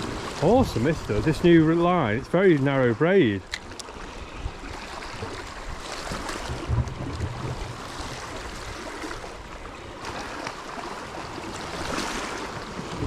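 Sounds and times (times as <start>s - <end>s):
water lapping against rocks: 0.0s - 13.0s.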